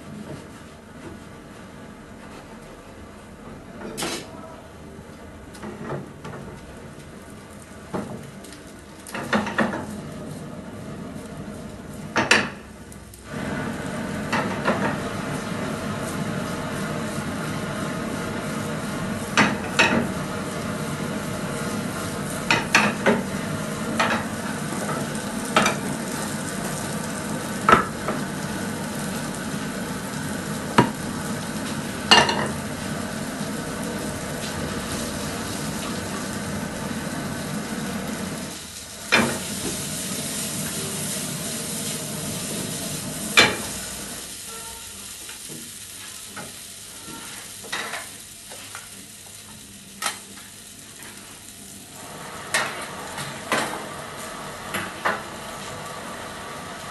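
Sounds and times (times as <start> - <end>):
food sizzling in frying pans: 5.4 - 56.9.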